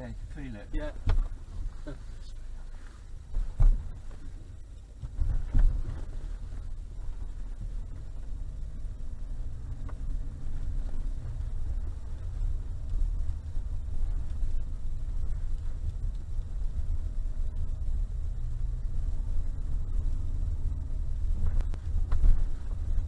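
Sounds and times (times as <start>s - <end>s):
car engine and tyre noise: 0.0s - 23.0s.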